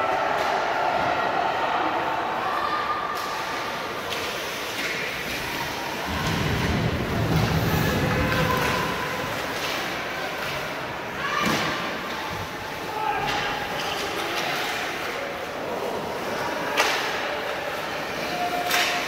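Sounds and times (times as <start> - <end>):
voices echoing in a hall: 0.0 - 19.0.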